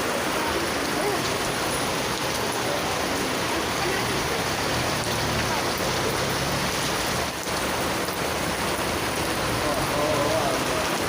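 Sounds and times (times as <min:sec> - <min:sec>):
floodwater running: 0:00.0 - 0:11.0
heavy rain: 0:00.0 - 0:11.0.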